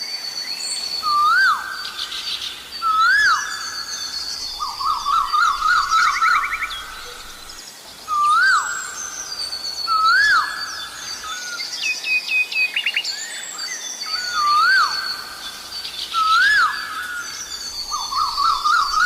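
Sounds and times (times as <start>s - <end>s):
small birds whistling and trilling: 0.0s - 19.0s.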